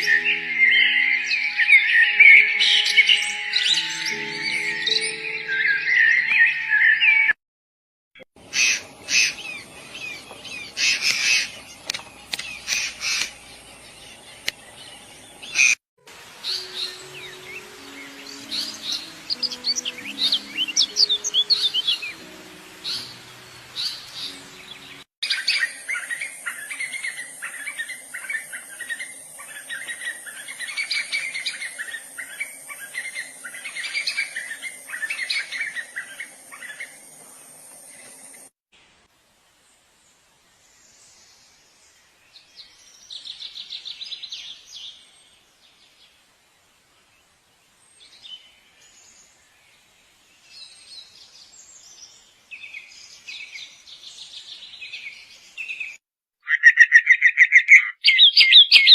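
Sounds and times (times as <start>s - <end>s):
songbirds chirping and trilling: 0.0s - 7.4s, 8.4s - 38.5s, 39.8s - 58.9s.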